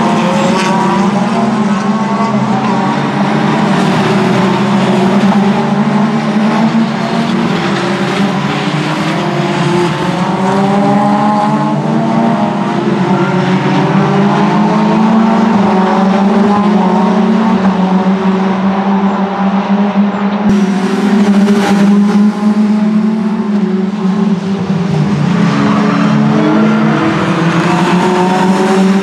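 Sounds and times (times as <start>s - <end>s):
loud engines accelerating: 0.0s - 29.0s
race cars driving past: 0.0s - 29.0s.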